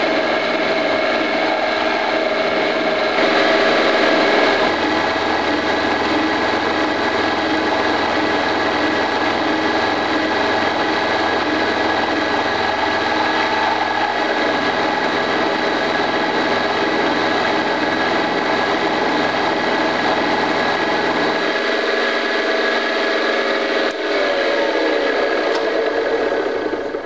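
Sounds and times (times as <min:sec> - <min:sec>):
low machine hum: 0:00.0 - 0:27.0
milling machine whine: 0:00.0 - 0:27.0.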